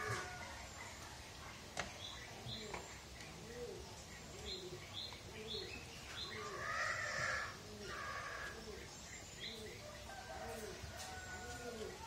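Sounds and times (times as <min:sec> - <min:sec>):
birds chirping and cooing: 0:00.0 - 0:12.0.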